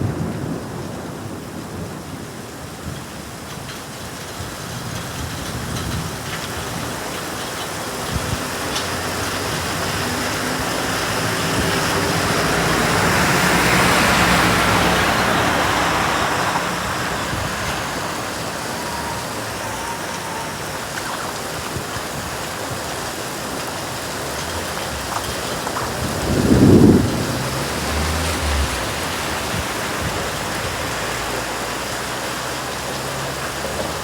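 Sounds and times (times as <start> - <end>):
steady rain falling: 0.0 - 34.0
vehicle passing on wet road: 0.0 - 34.0.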